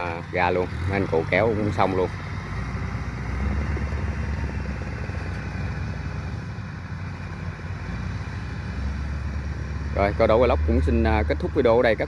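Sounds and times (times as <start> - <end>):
combine harvester working: 0.0 - 12.0
farm machinery engines rumbling: 0.0 - 12.0.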